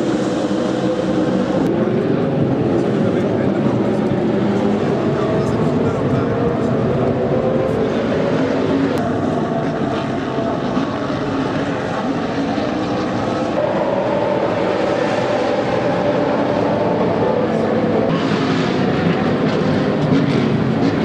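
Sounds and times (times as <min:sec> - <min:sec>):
racing car engines droning: 0:00.0 - 0:21.0.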